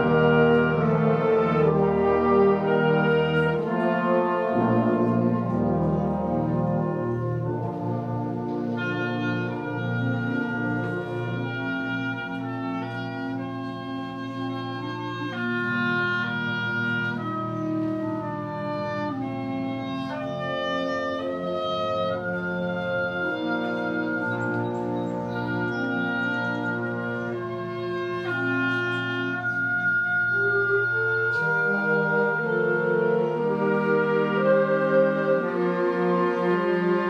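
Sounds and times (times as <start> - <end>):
concert band brass chords: 0.0 - 37.0.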